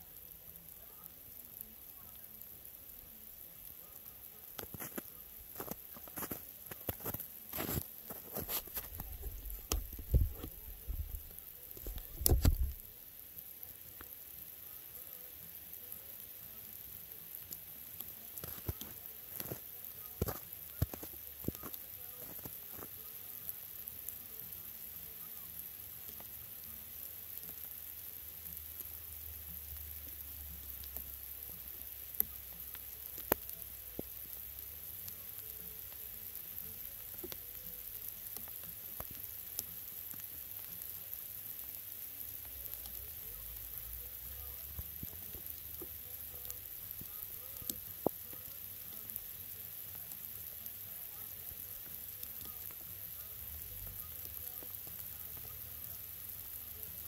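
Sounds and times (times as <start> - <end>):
rain hissing: 0.0 - 57.0
raindrop ticks: 0.0 - 57.0.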